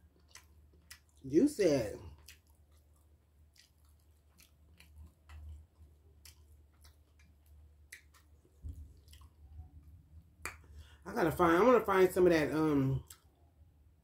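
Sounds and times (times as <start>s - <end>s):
faint chewing: 0.0s - 11.0s, 13.0s - 13.4s.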